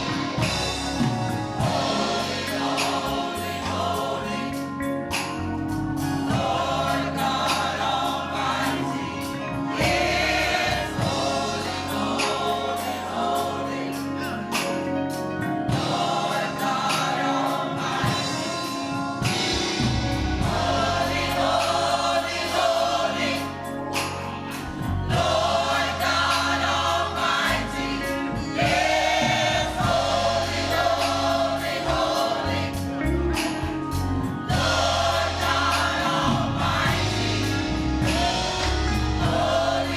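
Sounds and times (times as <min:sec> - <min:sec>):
choir singing gospel: 0:00.0 - 0:39.9
instrumental accompaniment with bass line: 0:00.0 - 0:39.9.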